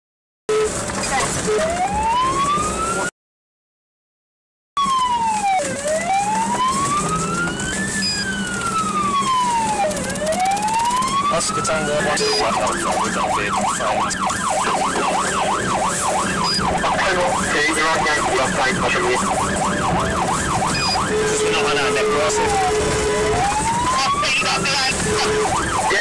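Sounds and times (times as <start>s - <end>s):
police siren wailing and yelping: 0.5s - 3.1s, 4.8s - 26.0s.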